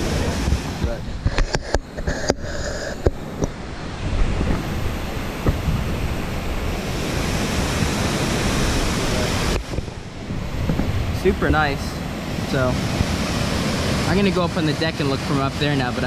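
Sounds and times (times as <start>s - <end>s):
waterfall rushing: 0.0s - 1.2s, 2.0s - 16.0s.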